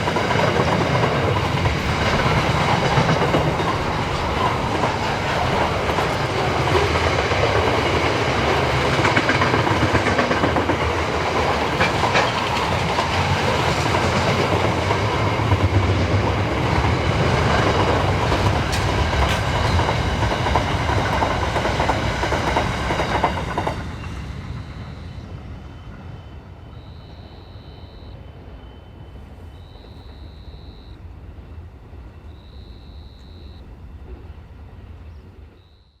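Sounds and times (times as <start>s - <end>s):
train wagons clickety-clack: 0.0s - 35.7s.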